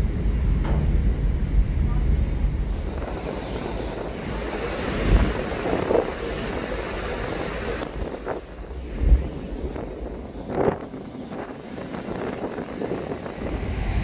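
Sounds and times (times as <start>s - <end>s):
sea rushing: 0.0s - 14.0s
wind buffeting microphone: 0.0s - 14.0s.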